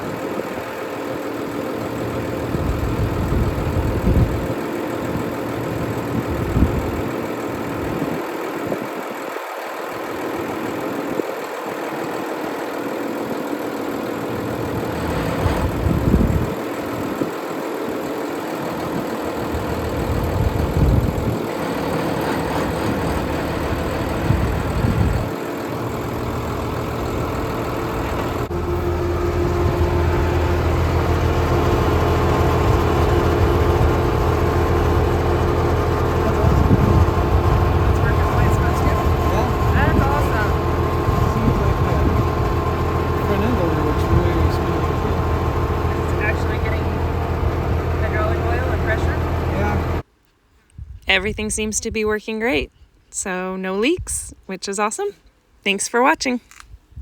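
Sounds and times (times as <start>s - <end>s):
loader hydraulics working: 0.0s - 50.0s
tractor engine running: 0.0s - 50.1s.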